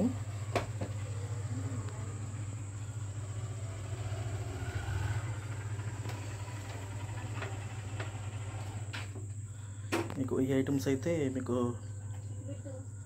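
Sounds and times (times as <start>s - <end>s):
faint high whine: 0.0s - 13.0s
low electrical hum: 0.0s - 13.0s.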